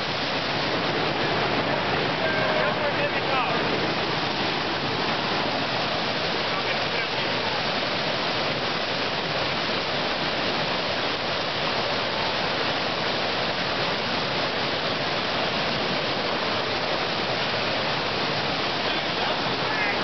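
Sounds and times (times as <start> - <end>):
river rapids rushing: 0.0 - 20.0.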